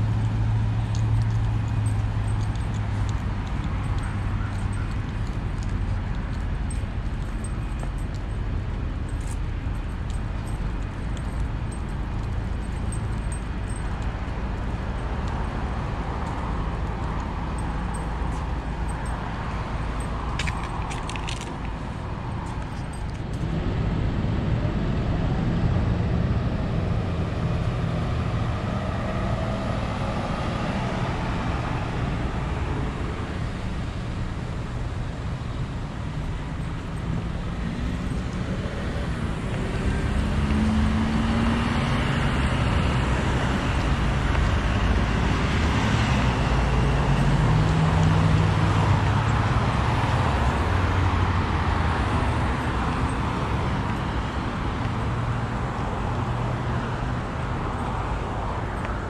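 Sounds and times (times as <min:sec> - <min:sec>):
passing cars rumbling: 0:00.0 - 0:59.0.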